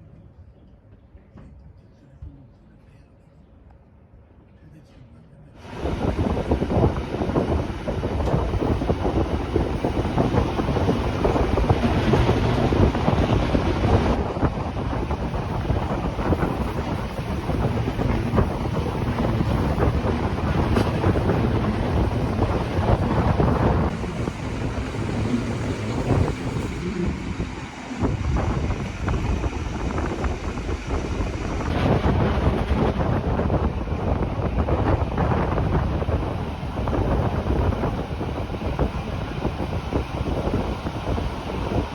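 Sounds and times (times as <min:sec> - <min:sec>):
train running rumble: 0:05.6 - 0:41.9
wind buffeting microphone: 0:05.6 - 0:41.9.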